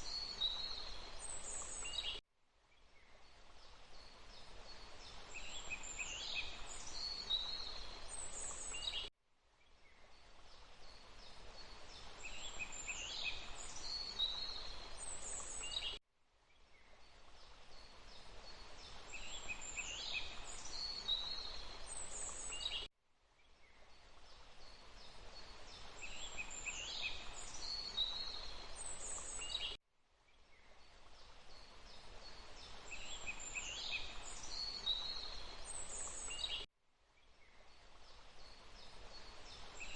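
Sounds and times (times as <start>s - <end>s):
soft forest background noise: 0.0s - 39.9s.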